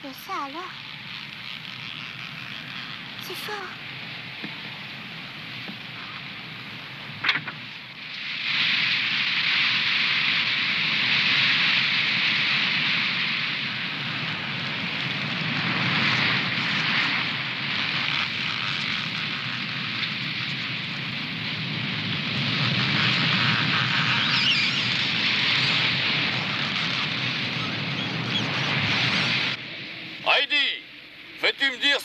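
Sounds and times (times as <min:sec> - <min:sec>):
strong wind through trees: 0:00.0 - 0:31.4.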